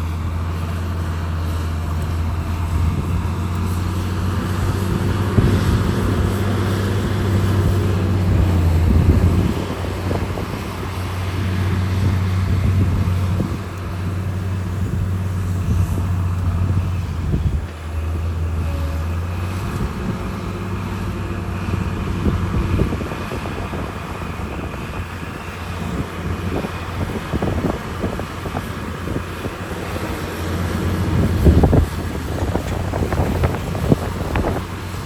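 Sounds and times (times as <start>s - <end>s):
diesel machinery low hum: 0.0s - 35.0s.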